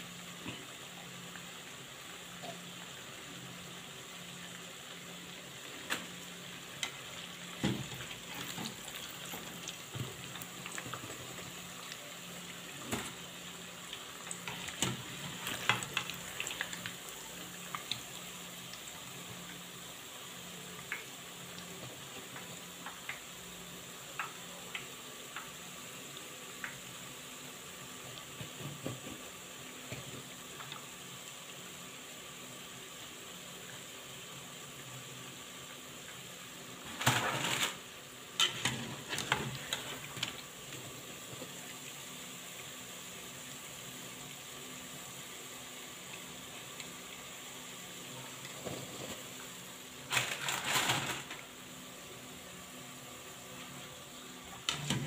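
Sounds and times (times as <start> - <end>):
dough deep-frying in oil: 0.0 - 55.0.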